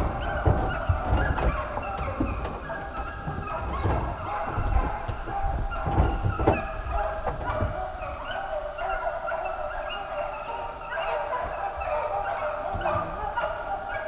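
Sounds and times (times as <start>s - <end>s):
hounds baying: 0.0s - 14.0s.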